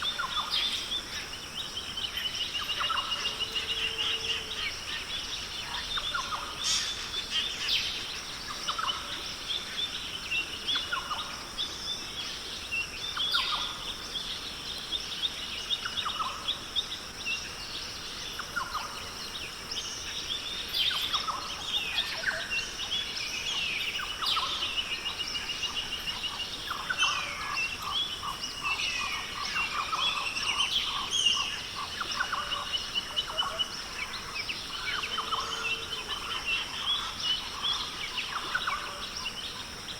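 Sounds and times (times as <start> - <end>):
birds calling: 0.0 - 39.9
insect drone: 0.0 - 39.9.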